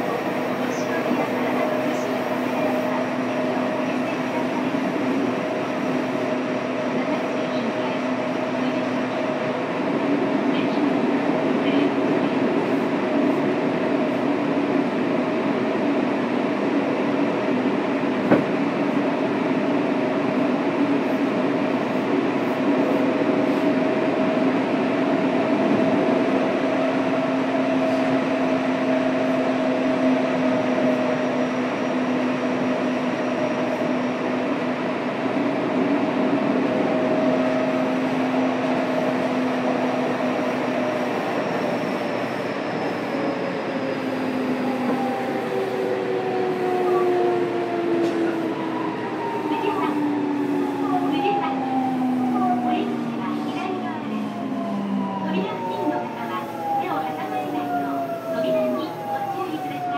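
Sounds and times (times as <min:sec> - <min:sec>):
train rolling noise: 0:00.0 - 0:59.9.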